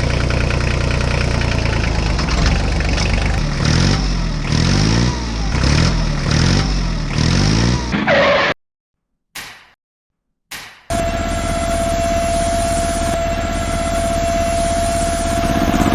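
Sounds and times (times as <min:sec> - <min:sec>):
model tractor engine revving: 0:00.0 - 0:08.5, 0:10.9 - 0:15.9.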